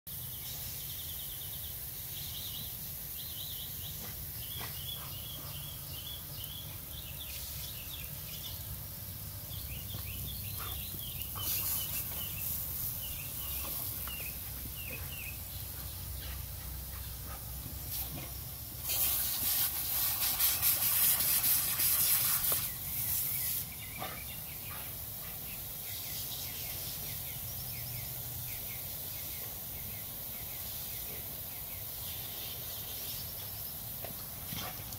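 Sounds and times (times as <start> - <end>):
lawn sprinkler hissing: 0.1 - 34.9.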